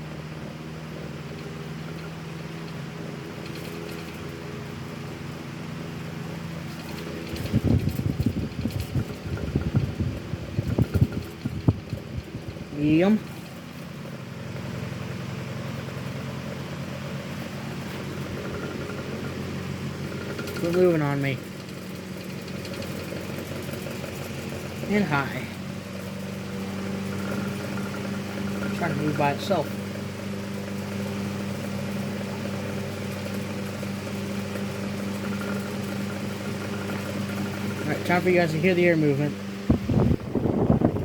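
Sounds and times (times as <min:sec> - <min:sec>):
desk fan motor humming: 0:00.0 - 0:41.0.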